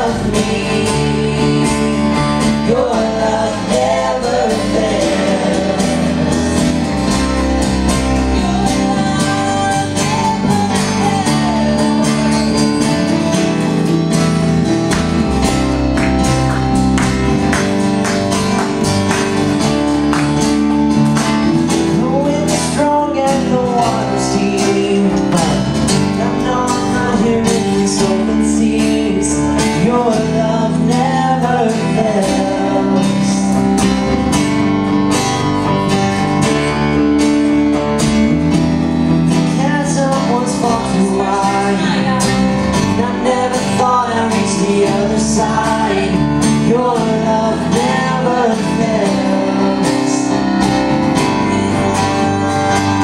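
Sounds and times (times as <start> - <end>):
vocalists singing: 0.0 - 34.1, 39.2 - 53.0
drums: 0.0 - 53.0
electric and acoustic guitars: 0.0 - 53.0
keyboard: 0.0 - 53.0.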